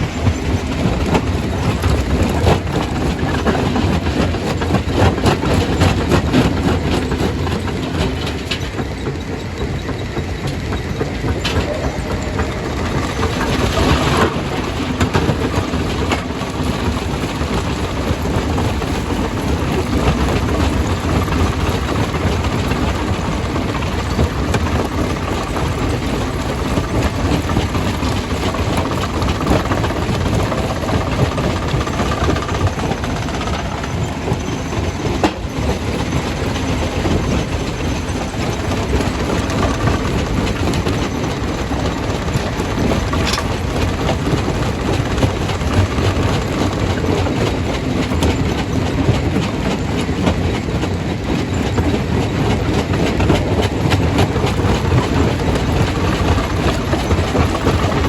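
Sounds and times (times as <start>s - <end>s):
machine engine rumble: 0.0s - 58.0s.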